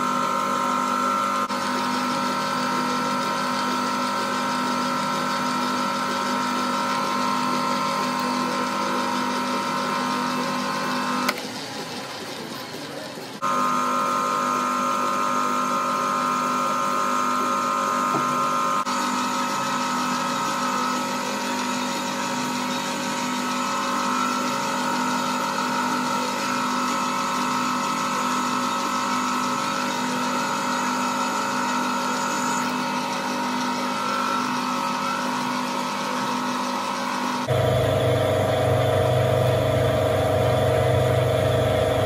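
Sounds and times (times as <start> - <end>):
lathe motor and gear whine: 0.0 - 42.0.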